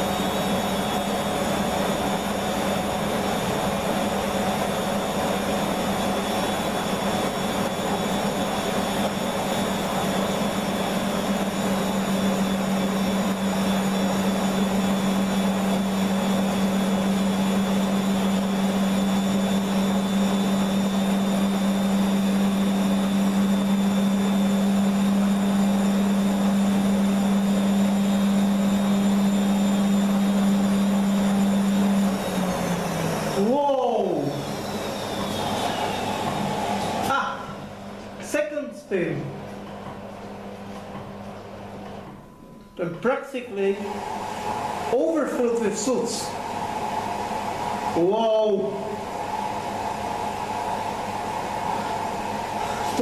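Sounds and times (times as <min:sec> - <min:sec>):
washing machine spinning: 0:00.0 - 0:53.0.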